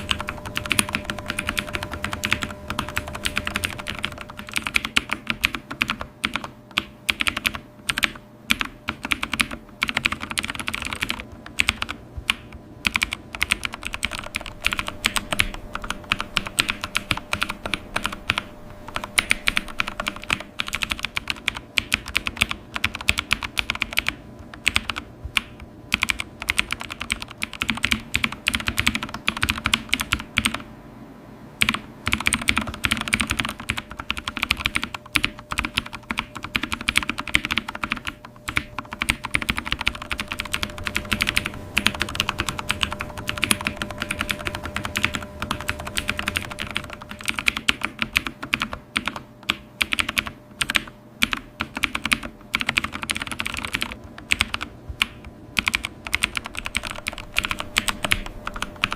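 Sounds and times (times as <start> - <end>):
keyboard typing clicks: 0.0 - 30.7, 31.6 - 58.9.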